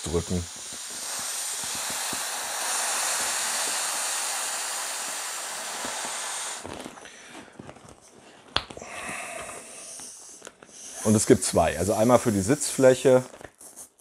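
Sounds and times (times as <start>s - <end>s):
air hissing from valve: 0.0s - 6.8s, 9.4s - 13.9s.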